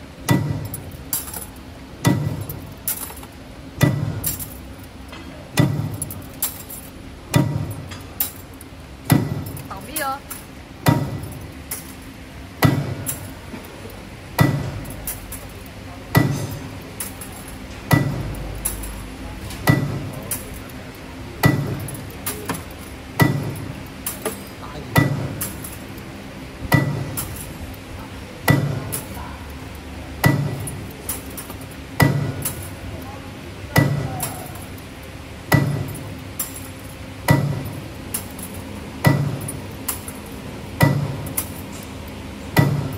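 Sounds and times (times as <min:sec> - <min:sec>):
sharp metallic clack: 0:00.2 - 0:12.0, 0:12.6 - 0:20.8, 0:21.4 - 0:26.0, 0:26.7 - 0:27.8, 0:28.5 - 0:29.3, 0:30.2 - 0:32.8, 0:35.5 - 0:41.9, 0:42.6 - 0:42.9.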